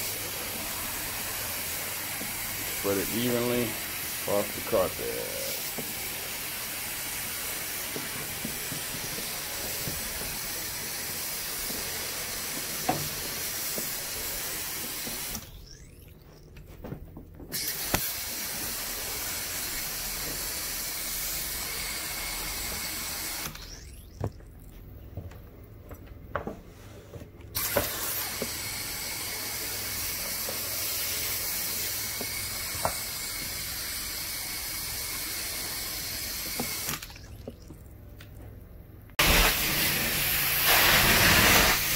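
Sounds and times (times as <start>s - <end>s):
sprayer hissing: 0.0s - 15.5s, 17.6s - 23.8s, 27.6s - 37.0s, 39.2s - 41.9s.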